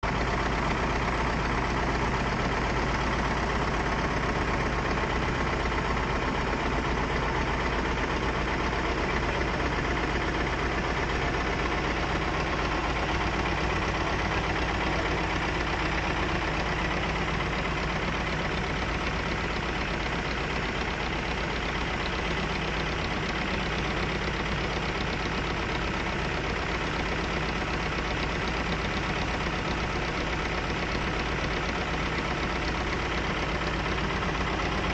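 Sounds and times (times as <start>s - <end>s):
motorboat engine running: 0.0s - 34.9s.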